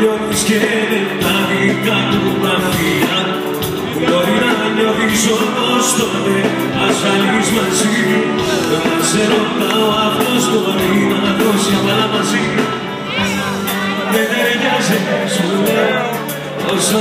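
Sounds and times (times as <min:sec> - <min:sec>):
live band music: 0:00.0 - 0:17.0
man singing pop song: 0:00.0 - 0:17.0.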